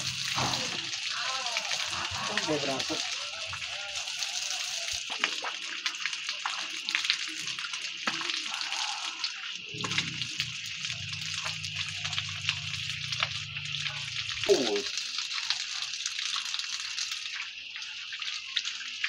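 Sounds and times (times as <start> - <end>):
water running from taps: 0.0 - 19.0
water splashing and dripping: 0.0 - 19.0.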